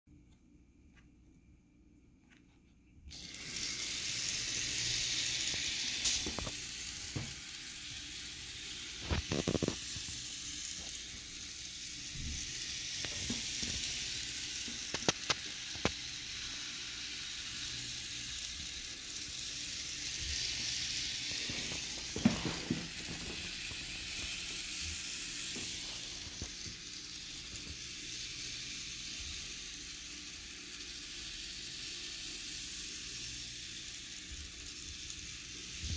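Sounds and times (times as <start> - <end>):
steady hissing: 3.1 - 35.9.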